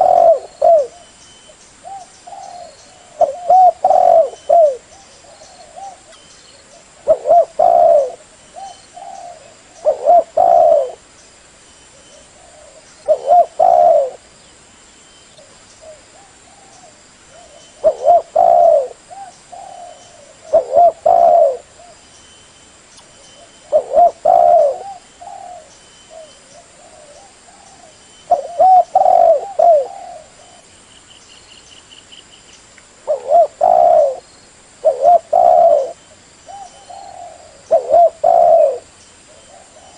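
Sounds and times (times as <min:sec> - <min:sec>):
dove cooing: 0:00.0 - 0:01.2, 0:01.8 - 0:11.0, 0:11.9 - 0:14.3, 0:15.4 - 0:22.0, 0:23.4 - 0:30.7, 0:33.0 - 0:39.9.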